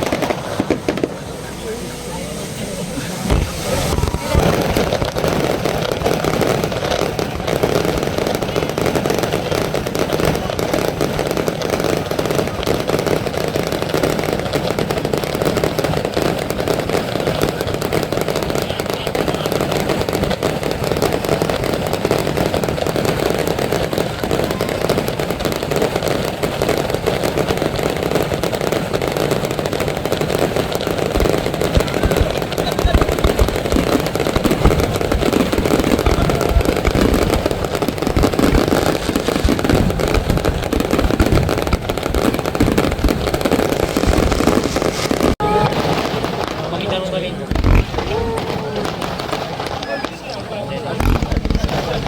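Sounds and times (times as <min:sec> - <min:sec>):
crowd voices: 0:00.0 - 0:52.0
fireworks bursting and crackling: 0:00.0 - 0:52.0.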